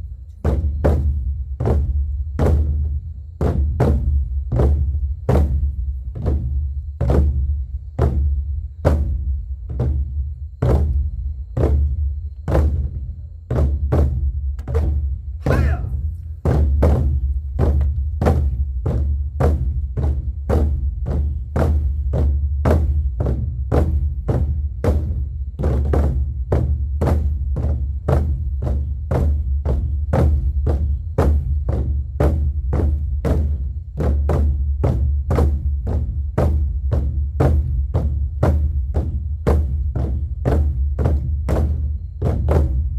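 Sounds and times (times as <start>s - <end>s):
large drums booming rhythm: 0.0s - 42.9s.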